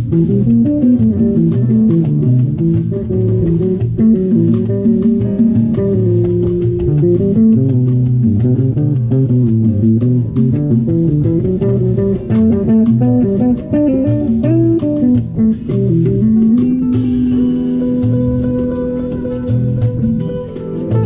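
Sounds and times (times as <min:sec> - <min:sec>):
bass guitar line: 0:00.0 - 0:21.0
plucked guitar music: 0:00.0 - 0:21.0
steady beat: 0:00.0 - 0:21.0.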